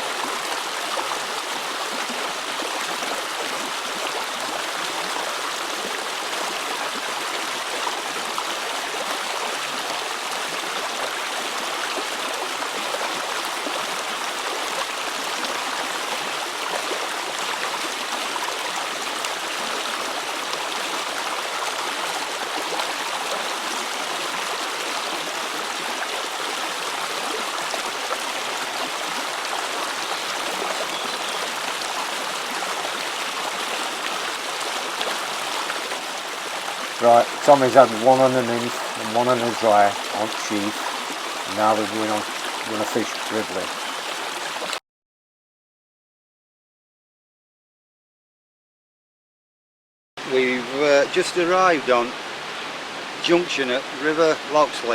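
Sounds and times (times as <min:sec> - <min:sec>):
river water running: 0:00.0 - 0:44.8, 0:50.2 - 0:54.9.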